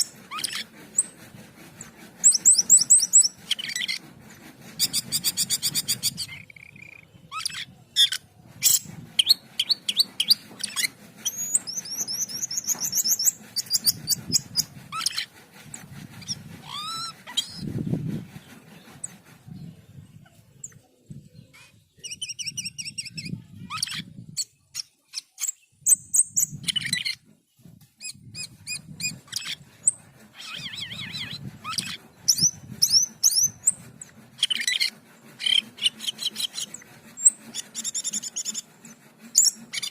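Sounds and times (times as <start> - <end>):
bird singing trills and whistles: 1.8 - 4.0, 4.8 - 15.3, 16.2 - 18.0, 18.8 - 27.2, 28.0 - 39.9.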